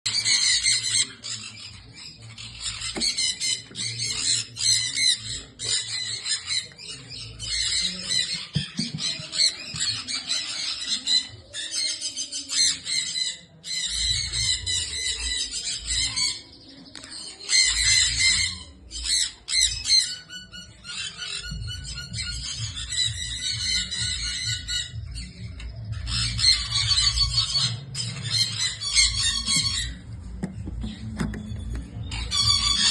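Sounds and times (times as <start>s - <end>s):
parrots screeching: 0.1s - 30.2s, 30.8s - 32.9s.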